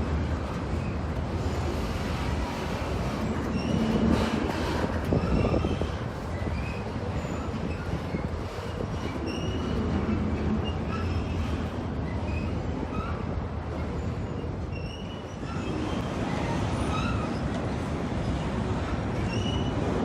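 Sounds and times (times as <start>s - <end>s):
freight train rumbling past: 0.0s - 20.0s
train wheels squealing: 0.7s - 20.0s.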